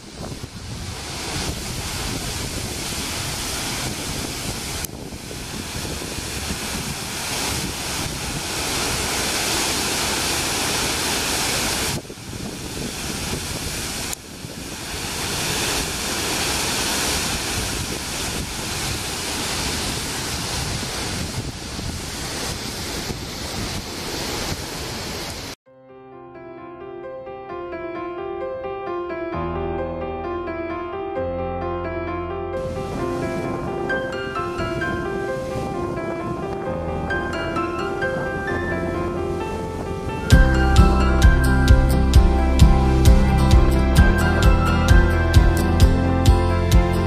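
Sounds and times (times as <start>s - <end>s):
waterfall roaring: 0.0s - 25.6s, 32.6s - 47.0s.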